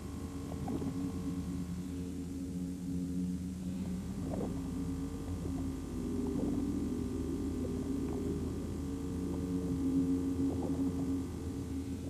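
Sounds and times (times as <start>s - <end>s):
low droning music: 0.0s - 12.0s.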